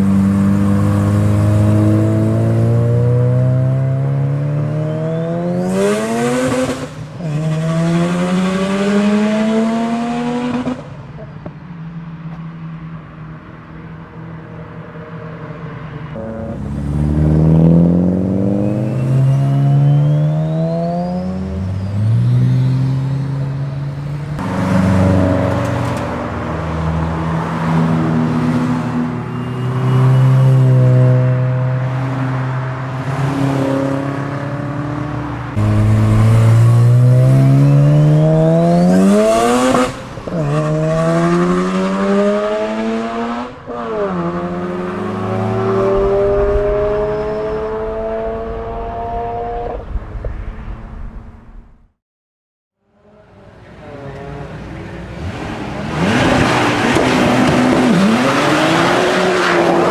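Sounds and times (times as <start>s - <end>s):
rotary engine accelerating hard: 0.0s - 11.0s, 15.2s - 51.4s, 53.8s - 59.9s.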